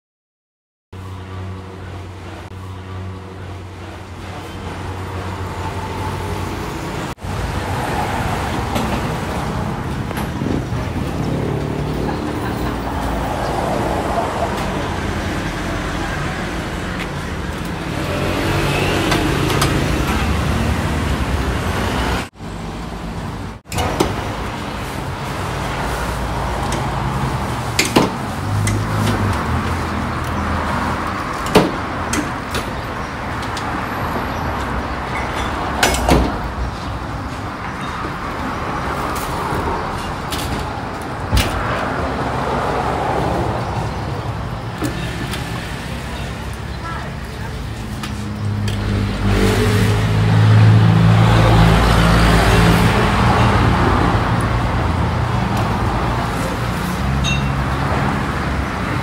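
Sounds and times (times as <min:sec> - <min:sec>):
street traffic: 0:00.9 - 0:59.0.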